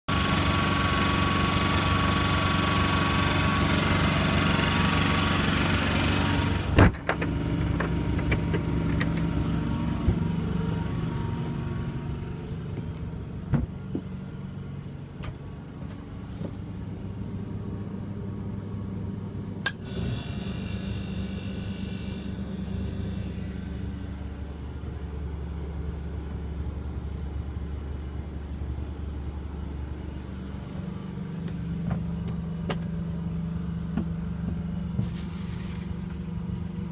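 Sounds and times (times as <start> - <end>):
generator engine running: 0.1 - 36.9.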